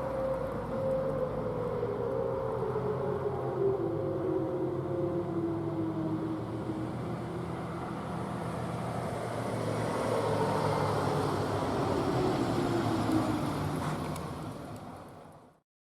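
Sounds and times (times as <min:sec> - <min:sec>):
road vehicle passing: 0:00.0 - 0:15.5.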